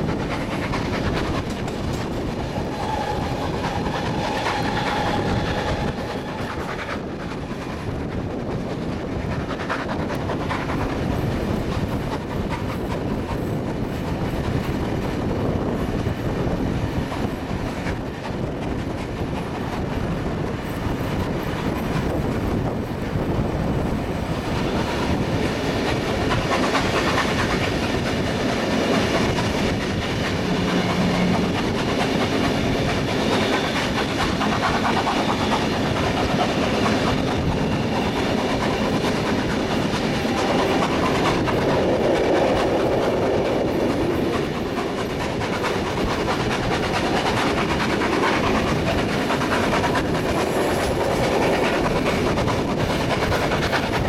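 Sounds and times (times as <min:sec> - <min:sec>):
train running noise: 0:00.0 - 0:54.0
wheels clicking over rail joints: 0:00.0 - 0:54.0.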